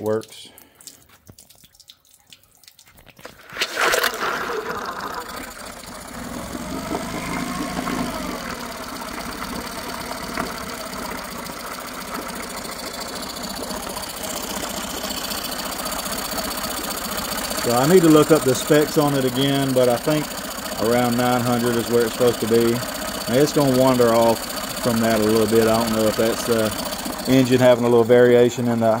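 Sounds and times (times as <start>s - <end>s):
outboard motor starting and idling: 3.2s - 29.0s.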